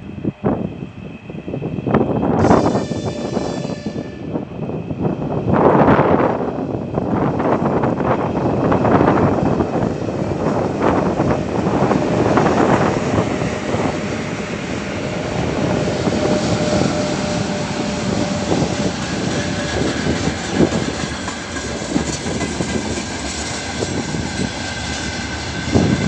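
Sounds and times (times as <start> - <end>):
electric locomotives passing: 0.0 - 26.0.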